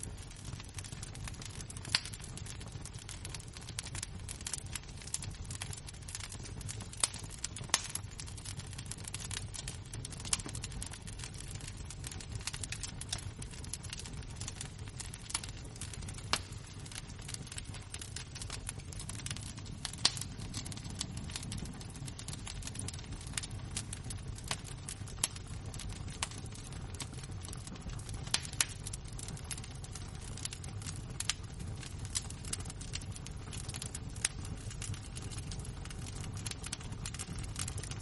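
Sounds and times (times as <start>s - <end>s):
embers crackling: 0.0s - 38.0s
loud fire pops: 0.0s - 38.0s.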